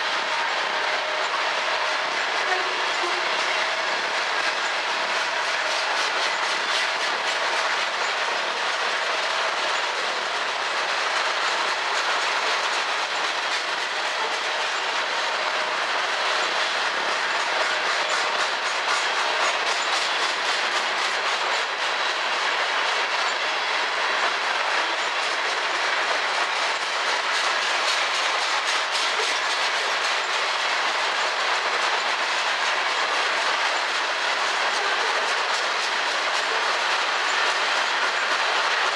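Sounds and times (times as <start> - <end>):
steel wheels rushing on rails: 0.0 - 38.9
wheels clicking over rail joints: 2.4 - 38.9.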